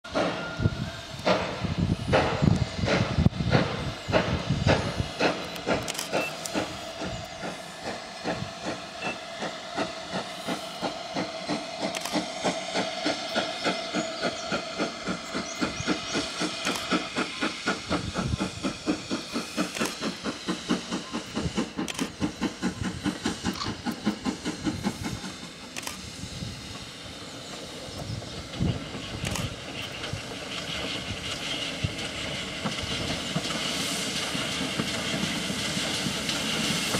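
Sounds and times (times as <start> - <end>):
steam hissing: 0.1 - 36.9
steam locomotive exhaust beats: 0.1 - 36.9.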